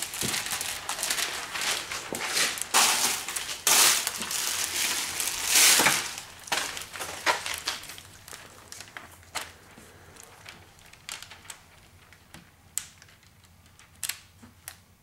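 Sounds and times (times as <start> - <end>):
plastic film crinkling and rustling: 0.0 - 15.0.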